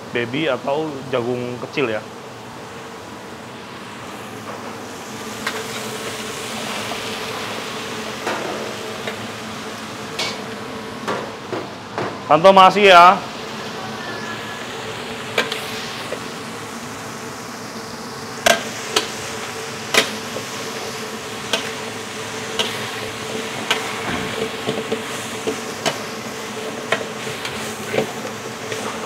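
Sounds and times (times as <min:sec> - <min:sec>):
food sizzling: 0:00.0 - 0:29.0.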